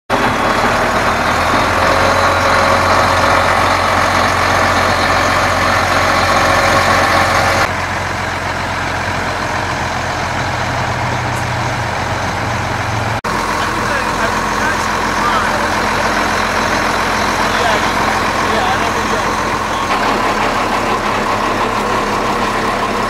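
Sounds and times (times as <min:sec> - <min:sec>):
low engine hum: 0:00.1 - 0:23.0
tractor diesel engine running: 0:00.1 - 0:23.0.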